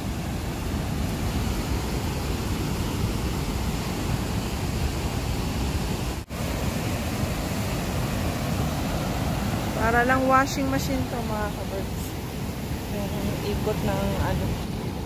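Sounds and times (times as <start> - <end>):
white water rushing: 0.0 - 15.0.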